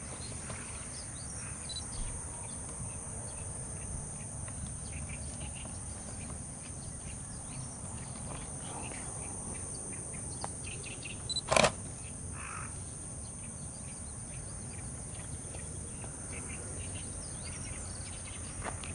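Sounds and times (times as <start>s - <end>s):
insect drone: 0.0s - 18.9s
faint chirps: 0.2s - 18.5s.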